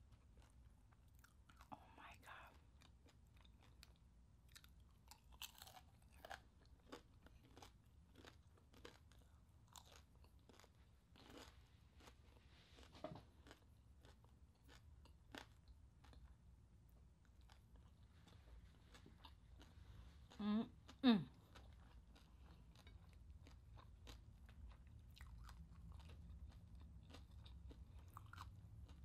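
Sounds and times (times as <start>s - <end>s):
crunchy chewing close up: 0.1s - 16.4s, 17.2s - 29.0s.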